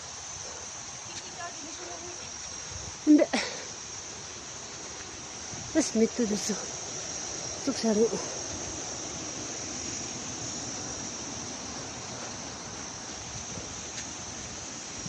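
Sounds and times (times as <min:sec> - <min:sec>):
insect drone: 0:00.0 - 0:15.0
wind-like noise: 0:00.0 - 0:15.0.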